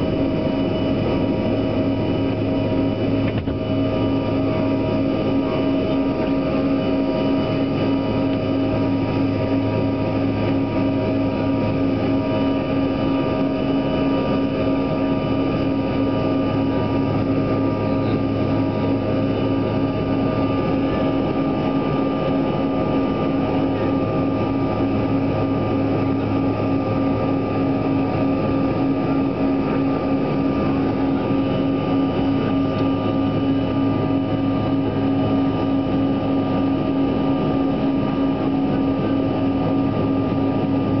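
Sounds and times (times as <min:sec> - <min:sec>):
jet engine drone: 0:00.0 - 0:41.0.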